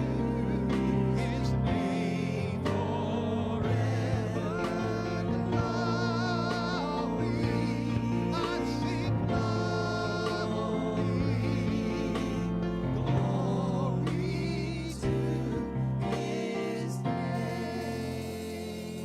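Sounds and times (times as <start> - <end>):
person singing wordless notes: 0.0 - 19.0.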